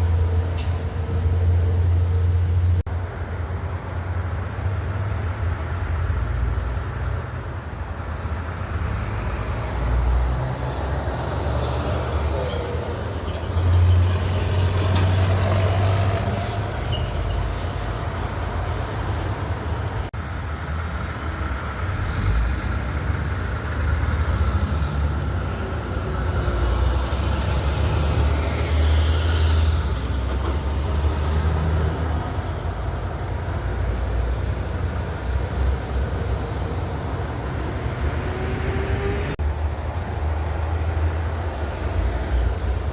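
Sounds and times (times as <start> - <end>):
heavy trucks rumbling past: 0.0 - 42.9.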